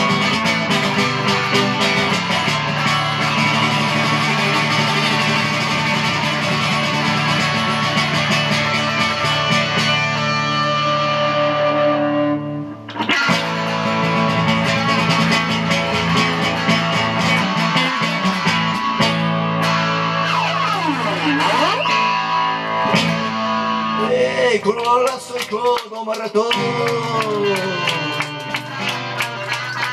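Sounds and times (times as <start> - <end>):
bass guitar: 0.0 - 29.9
distorted electric guitar: 0.0 - 29.9.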